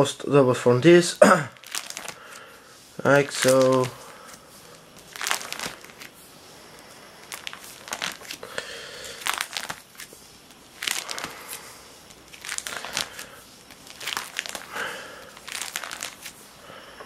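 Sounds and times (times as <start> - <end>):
plastic pages crinkling: 1.5 - 16.6.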